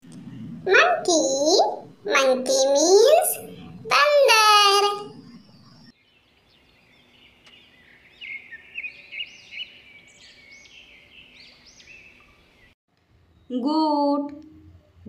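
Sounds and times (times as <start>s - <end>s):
bird chirping: 0.1s - 14.6s.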